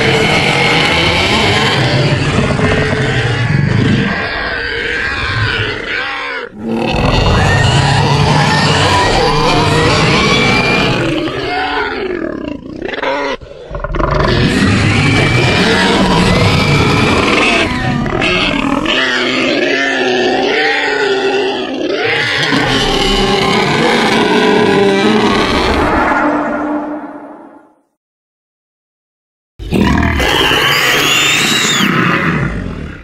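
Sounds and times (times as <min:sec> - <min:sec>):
monster grunts and roars: 0:00.0 - 0:26.4, 0:29.6 - 0:33.0.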